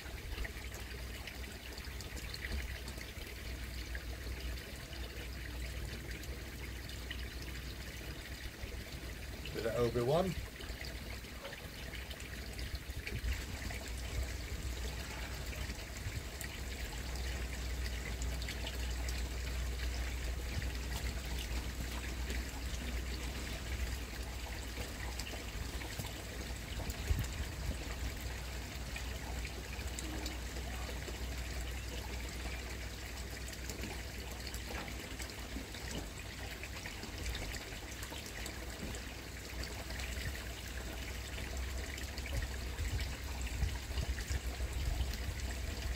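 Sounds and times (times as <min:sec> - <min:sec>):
pond water trickling: 0:00.0 - 0:45.9.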